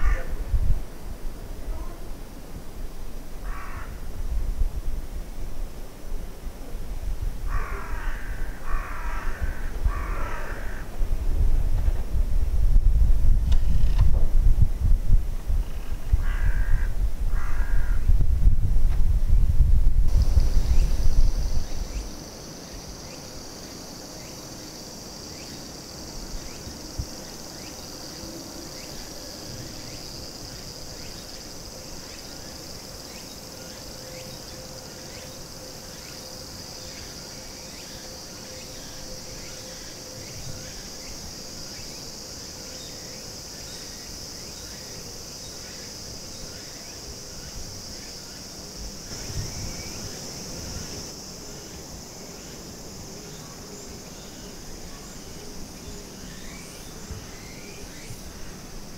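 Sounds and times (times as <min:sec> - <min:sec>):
insects buzzing: 0:00.0 - 0:58.9.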